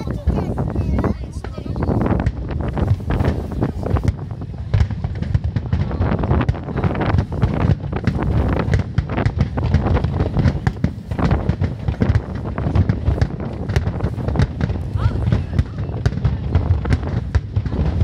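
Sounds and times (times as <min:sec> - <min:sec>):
fireworks bangs and crackles: 0:00.0 - 0:18.0
wind rumbling on microphone: 0:00.0 - 0:18.0.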